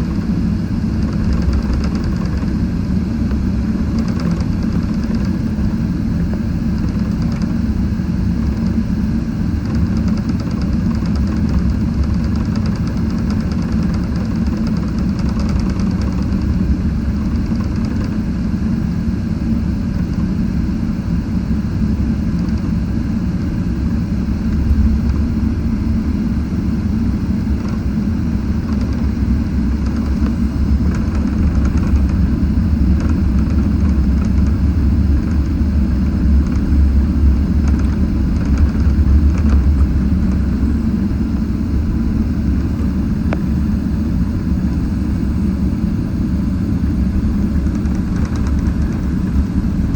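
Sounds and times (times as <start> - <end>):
jet engine low rumble: 0.0 - 49.9.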